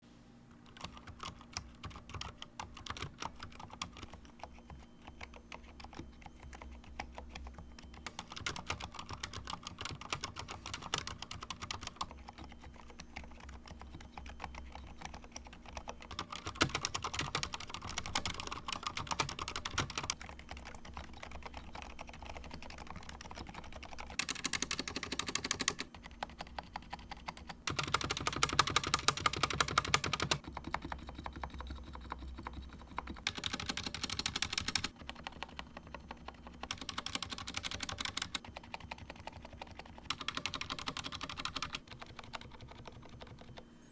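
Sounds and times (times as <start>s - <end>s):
mechanical keyboard typing: 0.6s - 43.7s.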